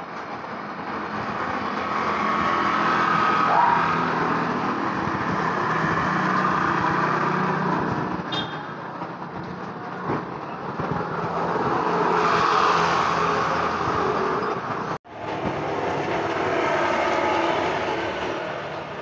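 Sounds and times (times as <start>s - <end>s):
passing vehicle rumble: 0.0s - 19.0s.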